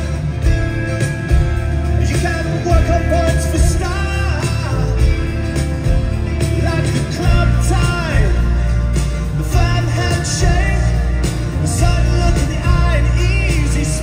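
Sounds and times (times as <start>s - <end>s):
acoustic guitar strumming: 0.0s - 14.0s
steady bass: 0.0s - 14.0s.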